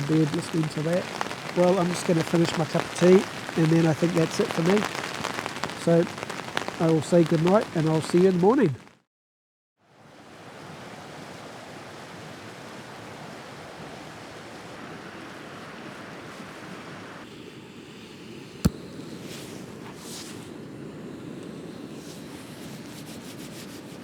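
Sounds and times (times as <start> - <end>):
wind: 0.0 - 8.8, 9.8 - 24.0.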